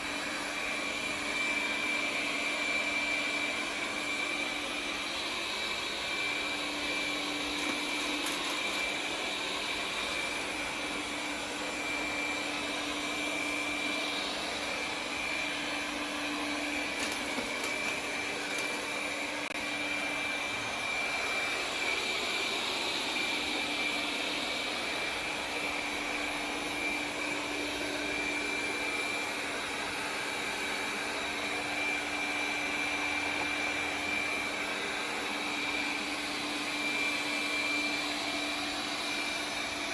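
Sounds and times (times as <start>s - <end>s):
robot vacuum whooshing hum: 0.0s - 39.9s.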